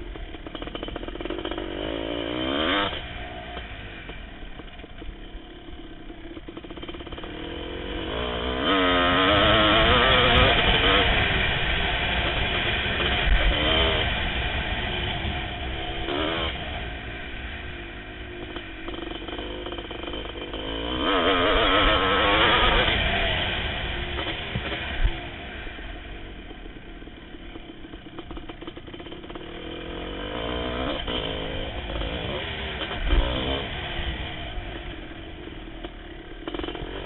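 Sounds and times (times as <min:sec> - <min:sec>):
motorcycle engine revving hard: 0:00.0 - 0:37.0.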